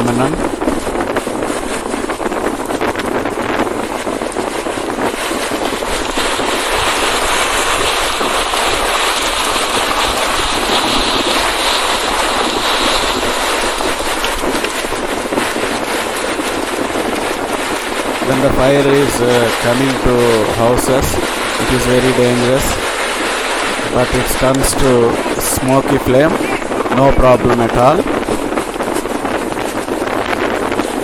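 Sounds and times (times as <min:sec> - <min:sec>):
strong wind rushing: 0:00.0 - 0:31.0.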